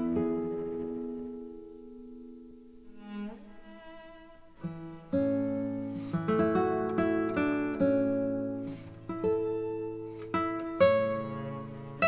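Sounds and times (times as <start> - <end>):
acoustic guitar plucked notes: 0.0 - 3.4, 4.6 - 12.0.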